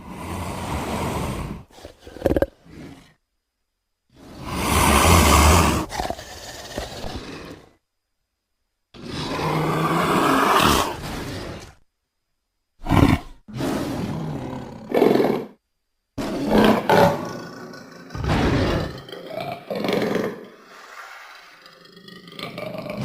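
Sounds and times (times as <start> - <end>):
big cat growling: 0.0 - 3.2, 4.2 - 7.8, 9.0 - 11.8, 12.8 - 15.6, 16.2 - 23.0
big cat roaring: 0.0 - 3.2, 4.2 - 7.8, 9.0 - 11.8, 12.8 - 15.6, 16.2 - 23.0.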